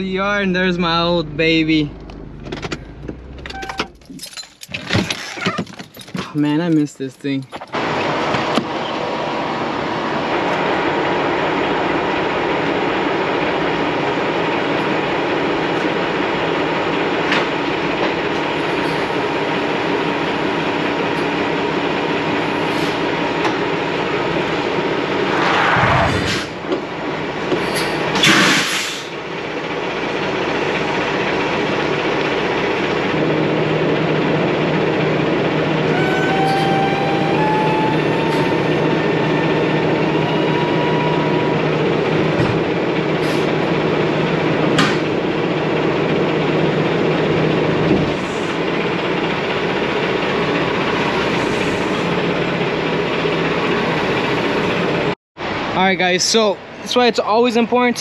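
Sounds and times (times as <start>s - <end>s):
diesel engine idling: 0.0s - 4.1s, 6.2s - 58.0s.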